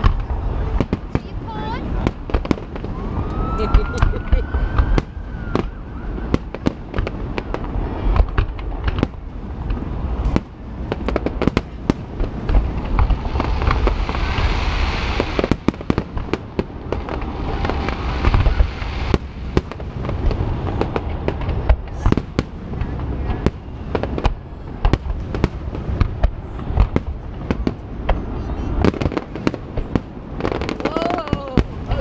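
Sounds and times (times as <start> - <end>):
continuous low rumble: 0.0 - 32.0
fireworks booming and banging: 0.0 - 32.0
fireworks hissing and crackling: 0.0 - 32.0.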